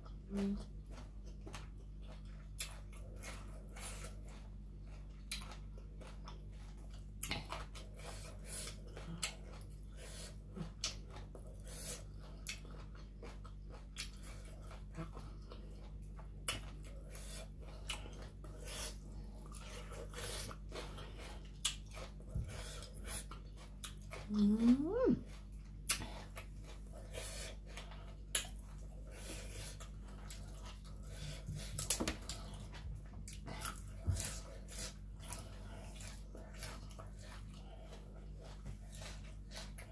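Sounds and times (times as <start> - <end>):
wet chewing crunches: 0.0 - 39.9.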